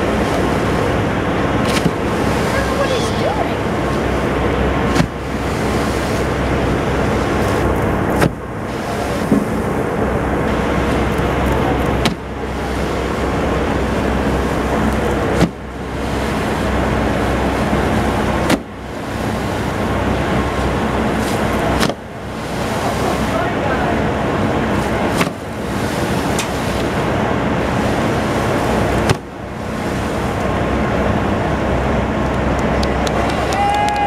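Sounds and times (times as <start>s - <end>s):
whale tail slapping water: 0.0s - 30.6s
steady engine noise: 0.0s - 34.0s
wind: 0.0s - 34.0s.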